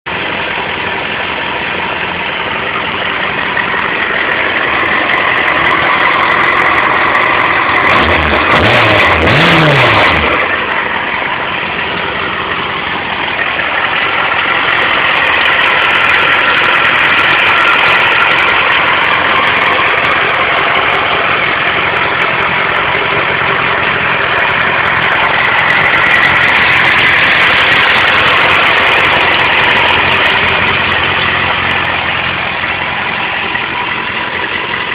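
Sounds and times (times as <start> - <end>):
motorcycle engine idling: 0.1 - 8.5, 10.2 - 34.9.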